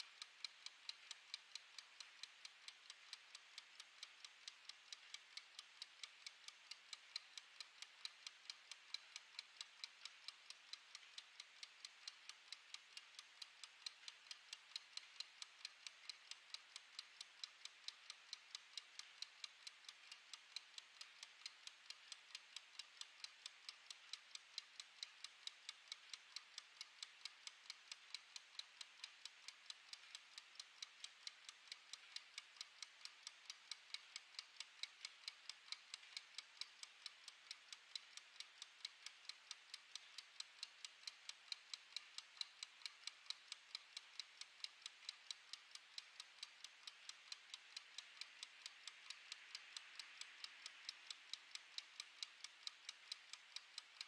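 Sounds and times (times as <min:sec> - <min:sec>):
kitchen timer ticking: 0:00.0 - 0:54.0.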